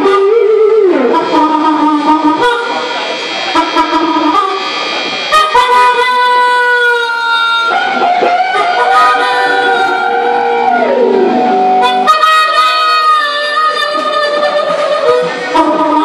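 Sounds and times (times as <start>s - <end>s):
drums: 0.0s - 16.0s
electric guitars: 0.0s - 16.0s
harmonica bending notes: 0.0s - 16.0s.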